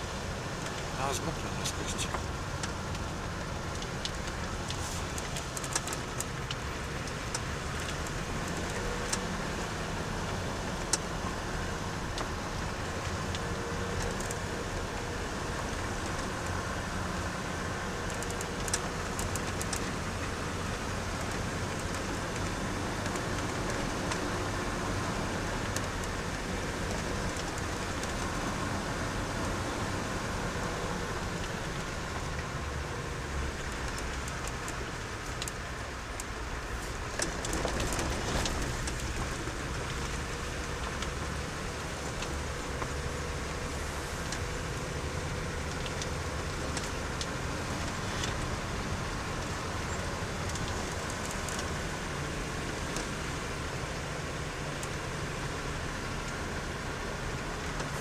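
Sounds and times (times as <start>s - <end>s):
car engine and tyre noise: 0.0s - 58.0s.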